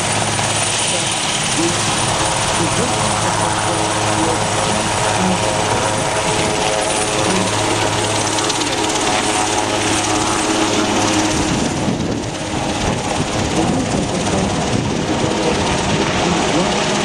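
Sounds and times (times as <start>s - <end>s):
helicopter flying past: 0.0s - 17.0s.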